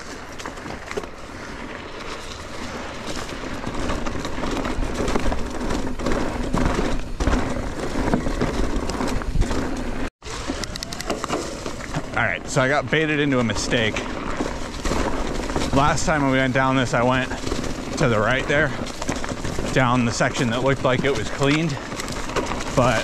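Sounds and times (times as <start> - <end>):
bike clattering over bumps: 0.0 - 23.0
bike tyres rolling over dirt: 0.0 - 23.0.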